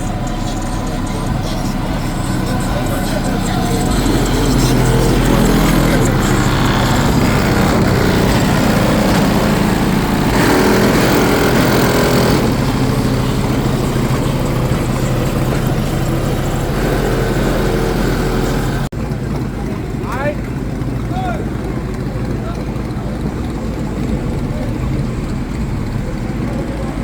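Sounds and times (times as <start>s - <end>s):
loud vehicle engine running: 0.0s - 27.0s.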